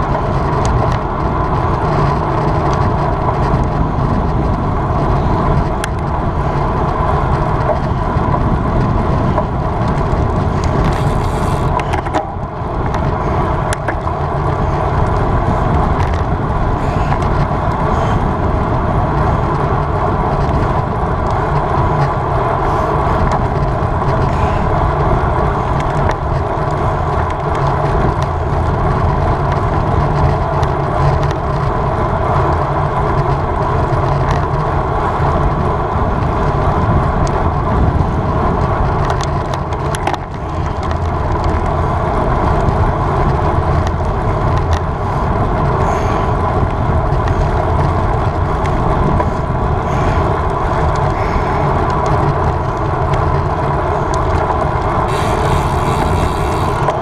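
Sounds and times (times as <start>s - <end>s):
bicycle tyre and road noise: 0.0s - 57.0s
wind rush over microphone: 0.0s - 57.0s.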